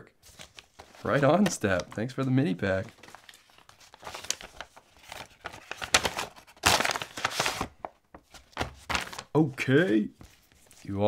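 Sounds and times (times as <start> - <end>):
paper envelopes rustling: 0.2 - 11.0
padded mailer crinkling: 0.3 - 9.4.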